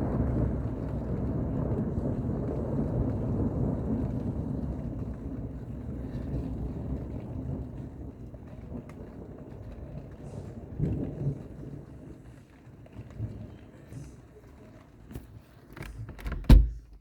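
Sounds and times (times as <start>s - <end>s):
thunder rumbling: 0.0s - 14.4s.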